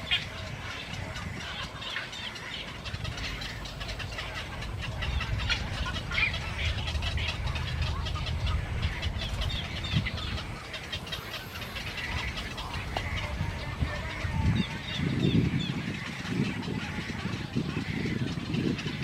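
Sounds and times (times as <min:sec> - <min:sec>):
fowl calling: 0:00.0 - 0:19.0
low steady rumble: 0:00.0 - 0:19.0.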